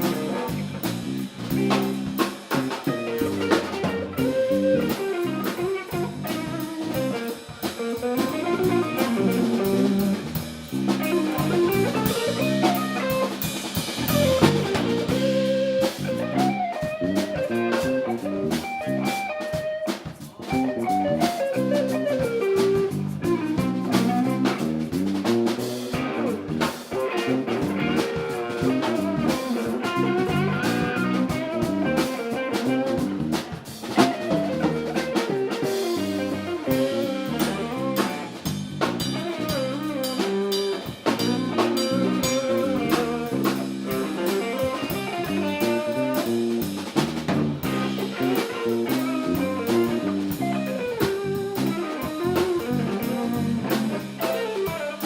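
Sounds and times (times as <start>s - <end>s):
drum kit: 0.0s - 55.0s
guitar: 0.0s - 55.0s.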